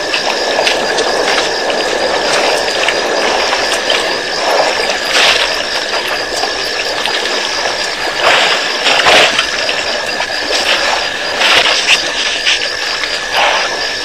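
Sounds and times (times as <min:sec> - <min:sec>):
elephants drinking: 0:00.0 - 0:14.0
faint high hum: 0:00.0 - 0:14.0.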